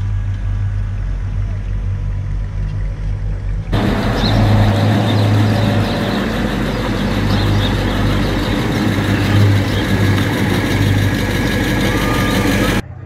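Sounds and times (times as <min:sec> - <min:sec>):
car engine low exhaust rumble: 0:00.0 - 0:12.8.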